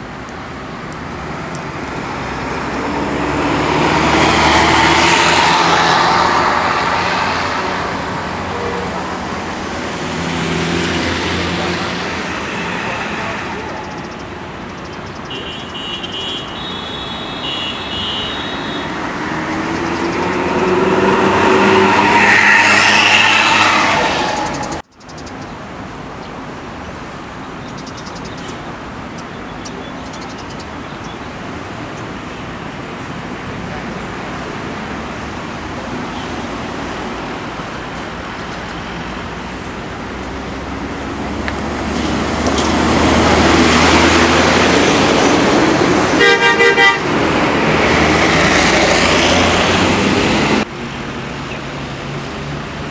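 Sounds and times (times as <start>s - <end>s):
vehicle approaching: 0.0s - 15.2s, 18.3s - 24.9s, 31.7s - 52.9s
vehicle passing: 0.0s - 15.6s, 17.0s - 24.8s, 31.4s - 52.9s
road traffic noise: 0.0s - 52.9s.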